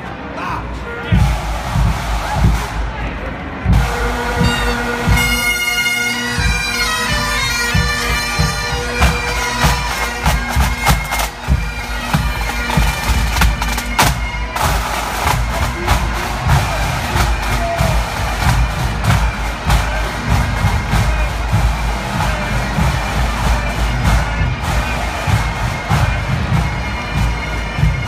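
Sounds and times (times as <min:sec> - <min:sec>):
drum strokes: 0:01.1 - 0:28.0
bagpipes playing a march: 0:03.7 - 0:28.0.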